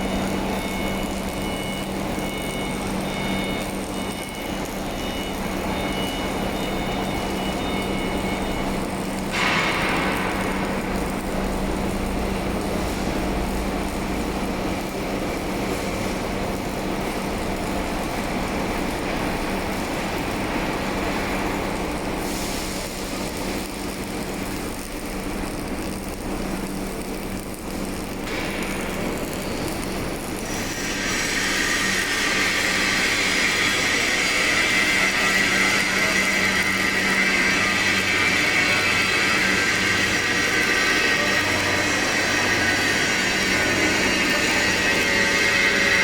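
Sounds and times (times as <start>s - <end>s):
welding machine humming: 0.0s - 46.0s.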